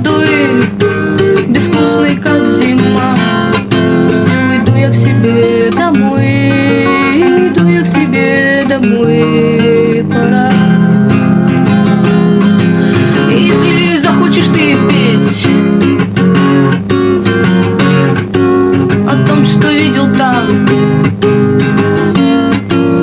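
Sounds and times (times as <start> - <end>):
young woman singing: 0.0 - 22.4
acoustic guitar strumming: 0.0 - 23.0.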